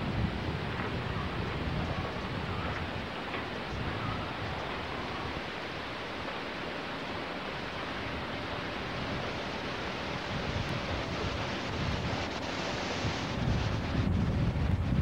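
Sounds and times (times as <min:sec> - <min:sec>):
steady hiss: 0:00.0 - 0:15.0
wind buffeting microphone: 0:00.0 - 0:15.0.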